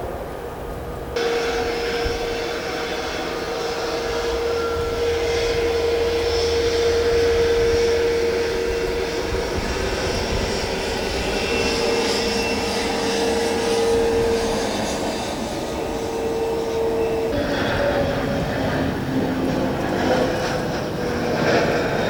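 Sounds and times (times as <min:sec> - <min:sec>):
airliner engines whining: 0:00.0 - 0:22.0.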